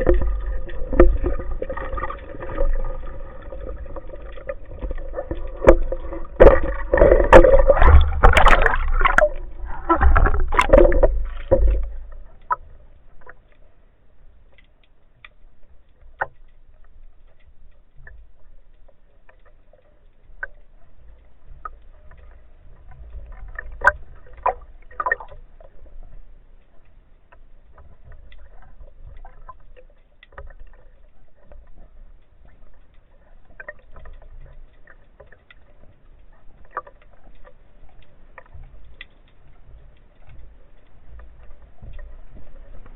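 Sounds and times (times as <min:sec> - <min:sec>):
faint clicks: 0:00.0 - 0:42.9
water gurgling and sloshing: 0:00.0 - 0:42.9.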